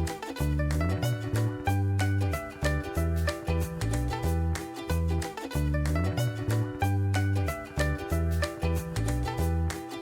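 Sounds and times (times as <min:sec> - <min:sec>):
instrumental music with bass line: 0:00.0 - 0:10.0.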